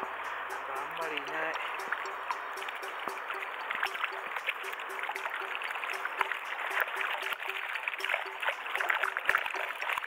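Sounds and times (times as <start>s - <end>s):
repeating low note: 0.0s - 8.6s.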